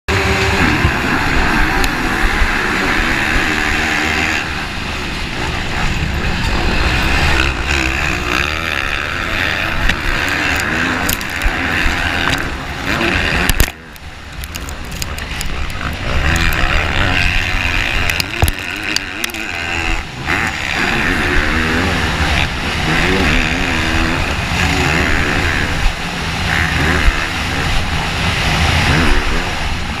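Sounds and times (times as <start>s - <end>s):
motorcycle engine revving: 0.1s - 30.0s.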